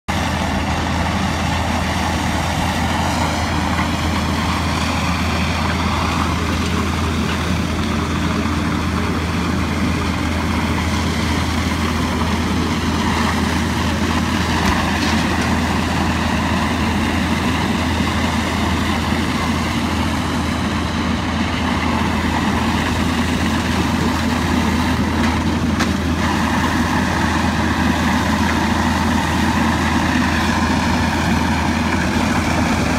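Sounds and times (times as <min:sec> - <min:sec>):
diesel engines droning: 0:00.0 - 0:32.9.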